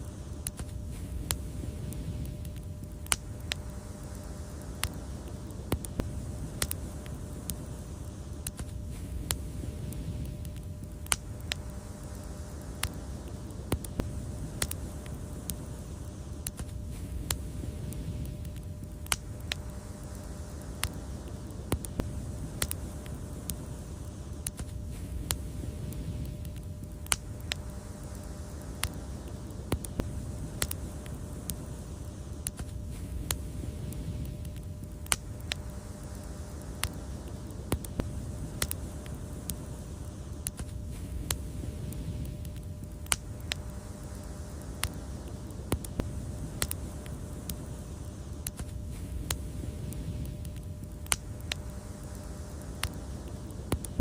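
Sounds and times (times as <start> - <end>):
fire crackling and popping: 0.0 - 54.0
fire roaring in fireplace: 0.0 - 54.0.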